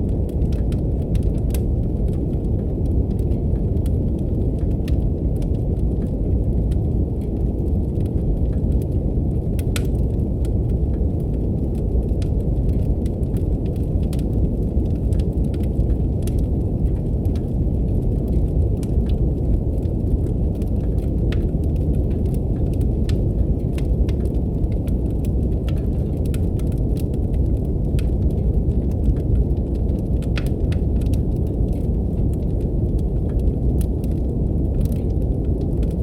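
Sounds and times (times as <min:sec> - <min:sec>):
brown noise rumble: 0:00.0 - 0:36.0
wood fire crackling: 0:00.0 - 0:36.0.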